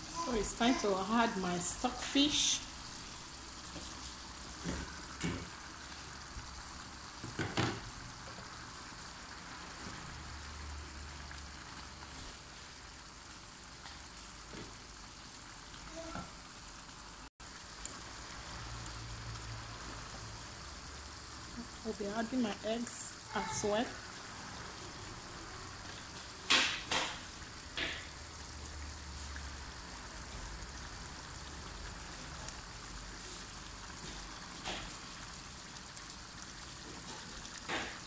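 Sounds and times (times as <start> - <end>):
stew sizzling in a pan: 0.0 - 38.0.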